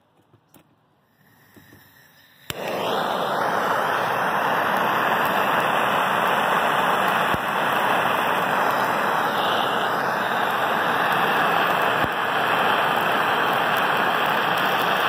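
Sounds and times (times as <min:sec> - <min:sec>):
gas torch flame hissing: 0:01.0 - 0:15.0.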